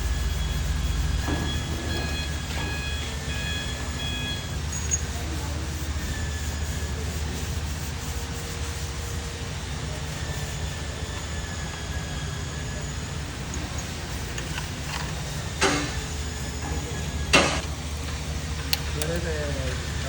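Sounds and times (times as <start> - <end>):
low machinery hum: 0.0 - 20.0.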